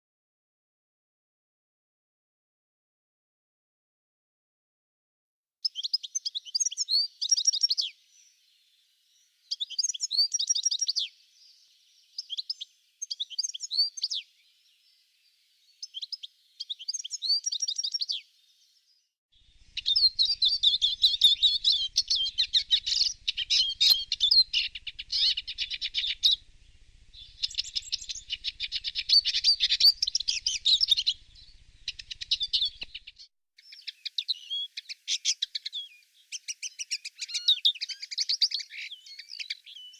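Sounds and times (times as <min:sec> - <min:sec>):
songbirds singing: 0:05.6 - 0:39.9.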